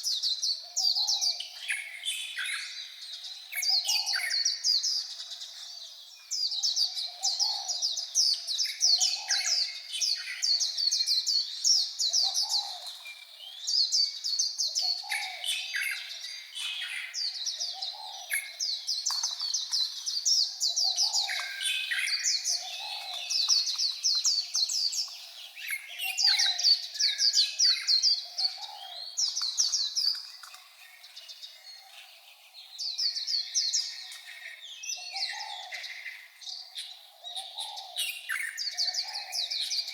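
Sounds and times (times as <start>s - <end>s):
bird twittering chirps: 0.0s - 32.0s.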